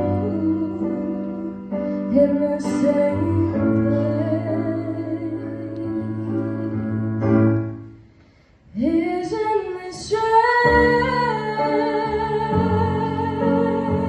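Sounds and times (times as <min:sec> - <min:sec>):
woman singing: 0:00.0 - 0:07.4, 0:08.7 - 0:14.0.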